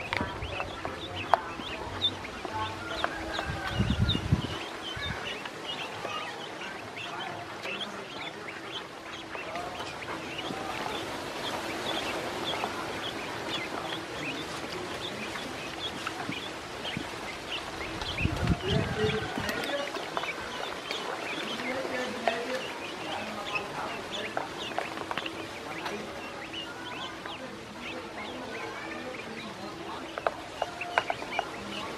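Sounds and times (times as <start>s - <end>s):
ducklings peeping: 0.0s - 31.9s.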